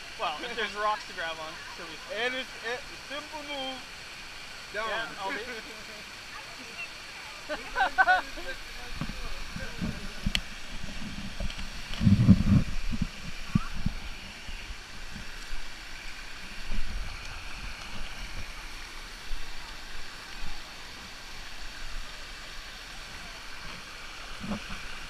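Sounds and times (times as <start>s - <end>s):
waterfall pouring into pool: 0.0s - 25.0s.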